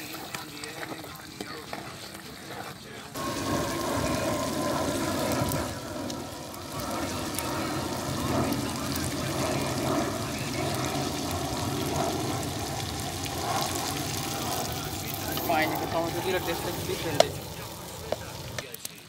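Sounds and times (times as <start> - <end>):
curry bubbling in a pot: 0.0 - 18.9
low rumble and hiss: 0.0 - 19.0.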